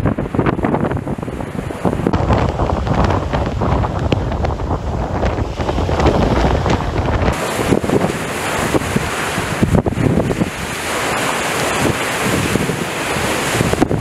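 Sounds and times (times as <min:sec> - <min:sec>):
storm wind buffeting microphone: 0:00.0 - 0:14.0
surf crashing: 0:00.0 - 0:14.0.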